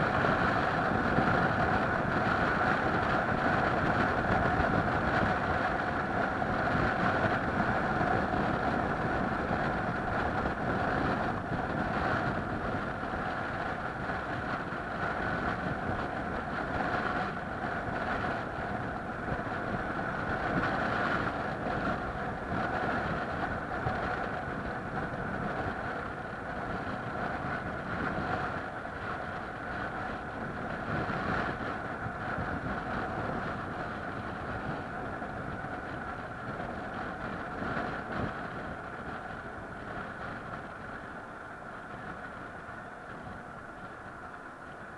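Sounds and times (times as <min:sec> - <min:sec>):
moving vehicle rumble: 0:00.0 - 0:44.9.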